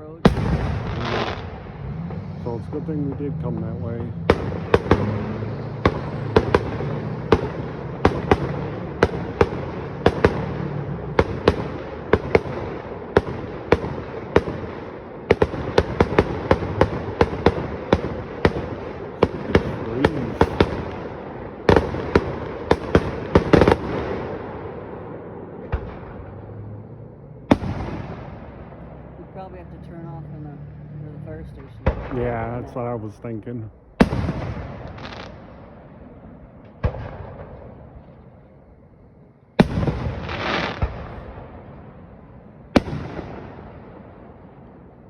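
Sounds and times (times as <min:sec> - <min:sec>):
fireworks banging: 0:00.0 - 0:26.6, 0:27.4 - 0:30.2, 0:31.3 - 0:38.4, 0:39.6 - 0:42.1, 0:42.7 - 0:45.0.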